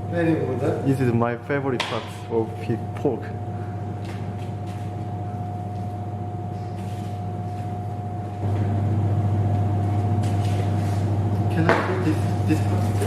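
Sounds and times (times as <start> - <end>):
mechanical hum with whine: 0.0 - 13.0.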